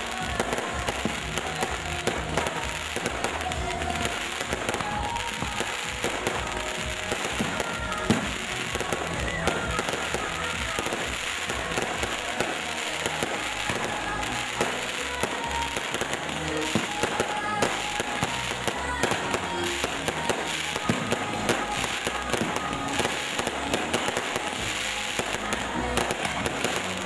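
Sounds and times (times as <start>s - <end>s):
background music: 0.0s - 27.0s
fireworks bangs and crackles: 0.0s - 27.0s.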